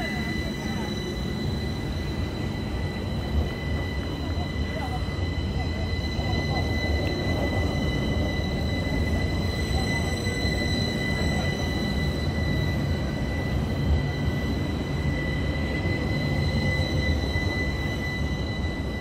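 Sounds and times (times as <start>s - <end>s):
high whine: 0.0s - 19.0s
tram wheels rumbling: 0.0s - 19.0s.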